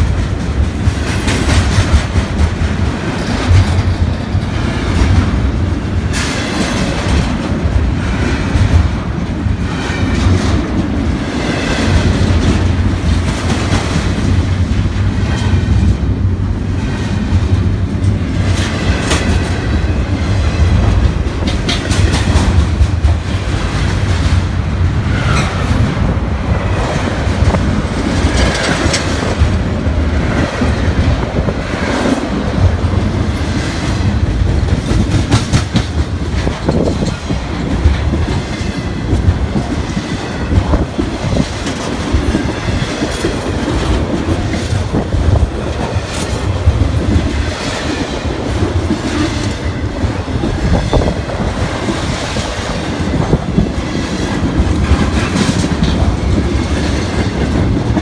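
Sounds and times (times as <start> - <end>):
wheels clicking over rail joints: 0.0 - 24.4, 26.5 - 58.0
freight train rumbling past: 0.0 - 58.0.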